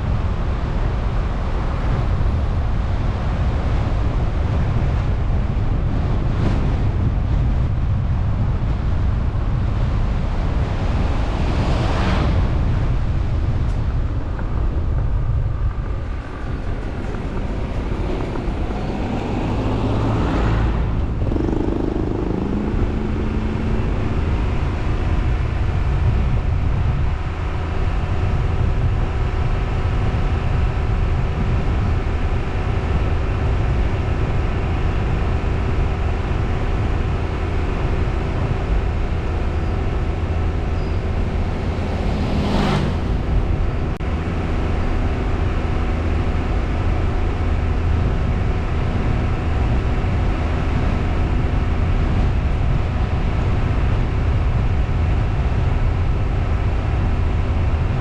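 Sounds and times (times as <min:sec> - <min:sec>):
car engine drone: 0:00.0 - 0:58.0
road and wind rumble: 0:00.0 - 0:58.0.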